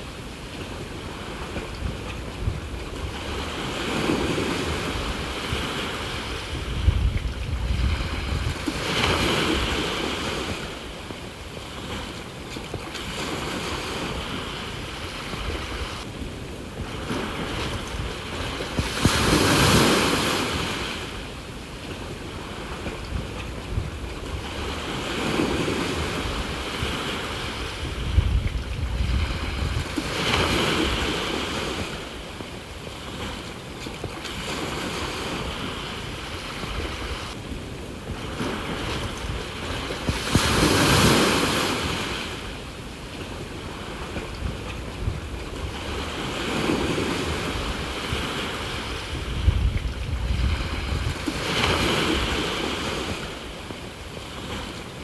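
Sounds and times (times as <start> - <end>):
ocean waves washing ashore: 0.0 - 55.0
wind gusts on microphone: 0.0 - 55.0.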